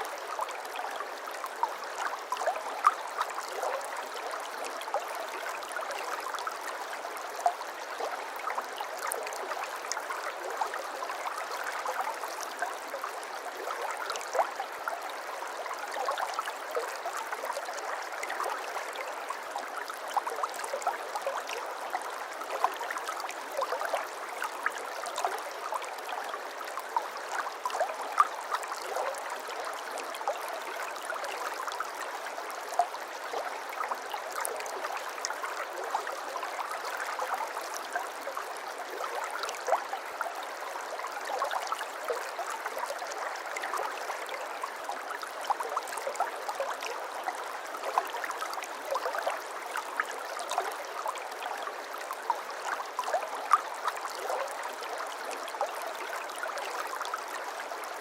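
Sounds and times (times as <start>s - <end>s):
water babbling: 0.0s - 58.0s.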